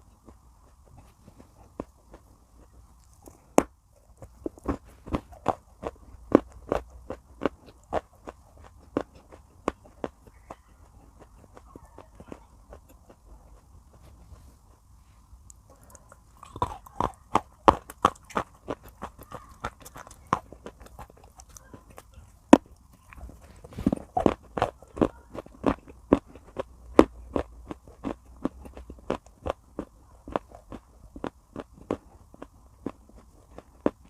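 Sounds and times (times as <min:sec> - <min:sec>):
clay pot pieces being chewed: 0:00.0 - 0:34.0.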